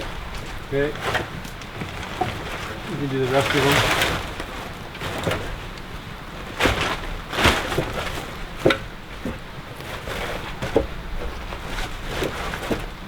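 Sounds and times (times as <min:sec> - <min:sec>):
wooden poles knocking together: 0:00.0 - 0:13.0.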